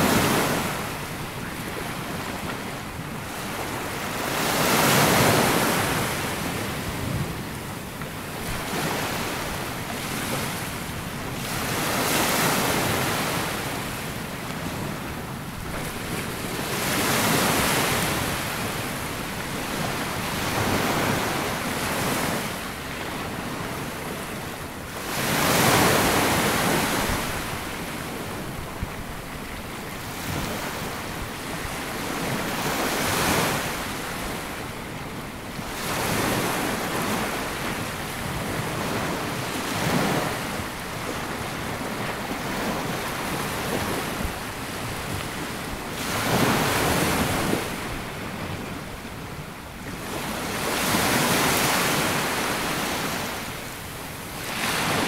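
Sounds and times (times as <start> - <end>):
waves breaking on sandy beach: 0.0 - 55.0
wind on microphone: 0.0 - 55.0.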